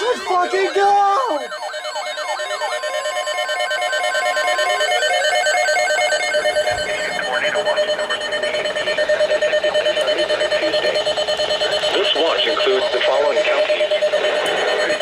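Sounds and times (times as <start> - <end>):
rapidly pulsing beep: 0.0 - 15.0
steady high alert tone: 0.0 - 15.0.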